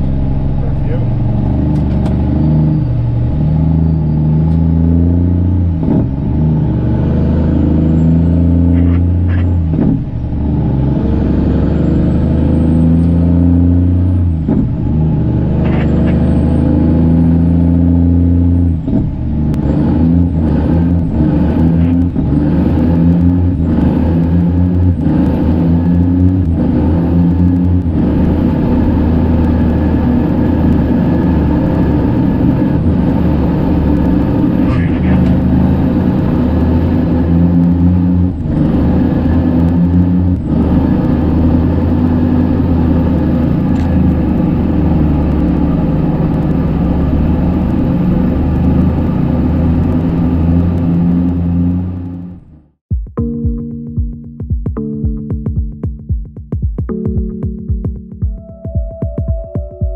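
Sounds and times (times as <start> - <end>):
diesel truck engine accelerating: 0.0 - 52.8
high gear whine: 0.0 - 52.8.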